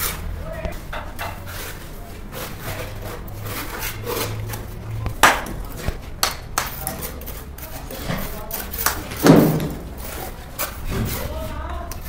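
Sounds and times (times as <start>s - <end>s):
trowel scraping mortar: 1.1s - 12.0s.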